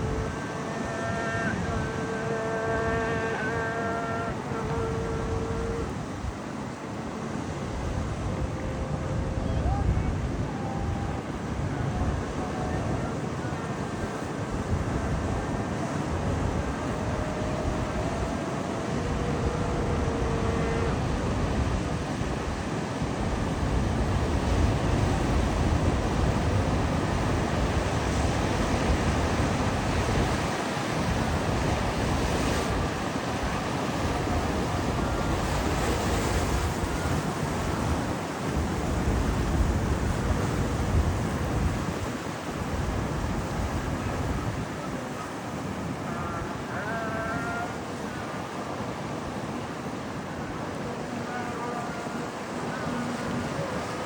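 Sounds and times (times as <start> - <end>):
wind buffeting microphone: 0.0 - 51.0
rough sea surf breaking: 0.0 - 54.0.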